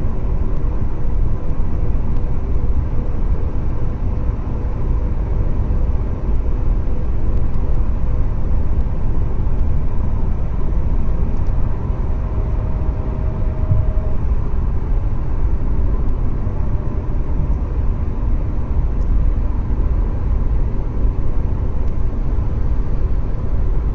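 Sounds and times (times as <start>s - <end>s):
car engine low rumble: 0.0s - 23.9s.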